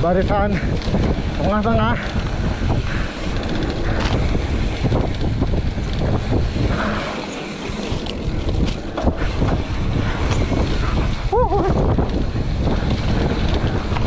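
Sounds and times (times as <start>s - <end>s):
bike frame rattling over bumps: 0.0s - 14.0s
wind buffeting microphone: 0.0s - 14.0s.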